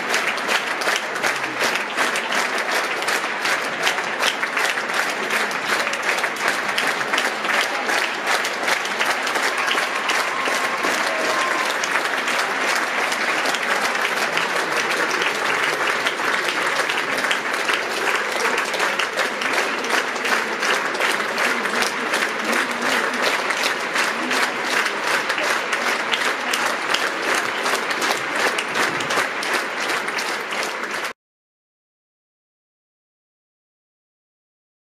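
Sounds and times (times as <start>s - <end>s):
audience applauding: 0.0s - 31.2s.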